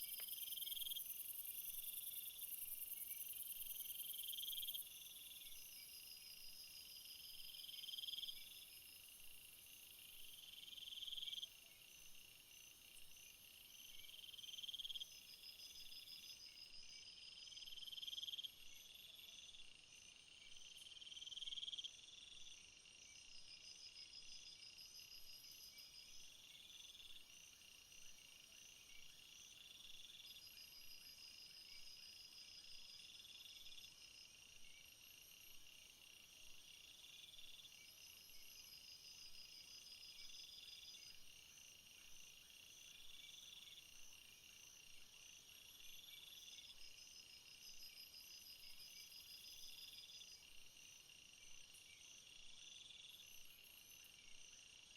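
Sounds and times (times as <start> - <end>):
insects trilling and chirping: 0.0 - 54.9.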